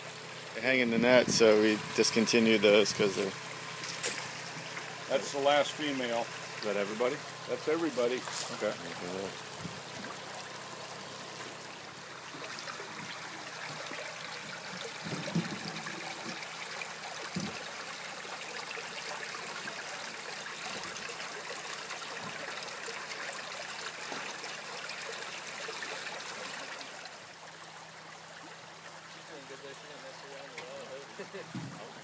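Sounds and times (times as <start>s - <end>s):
creek water running over rocks: 0.0s - 32.0s.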